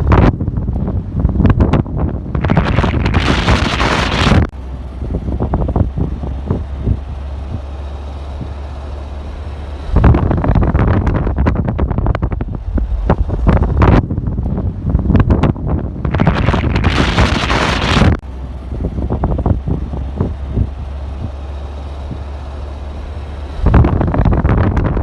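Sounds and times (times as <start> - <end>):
wind buffeting microphone: 0.0 - 8.8, 9.8 - 25.0
steady low hum: 0.0 - 25.0.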